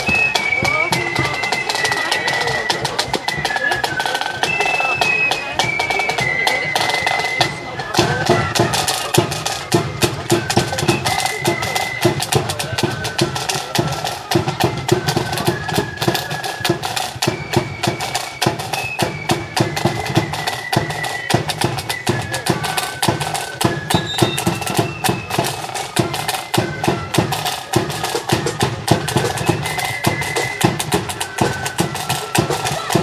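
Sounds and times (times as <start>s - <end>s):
flute melody: 0.0s - 33.0s
side drum rolls: 0.0s - 33.0s.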